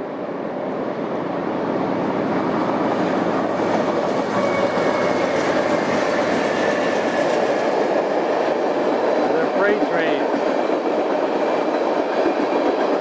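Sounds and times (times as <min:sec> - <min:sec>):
freight train rumbling on rails: 0:00.0 - 0:13.0
high whine from train wheels: 0:00.0 - 0:13.0.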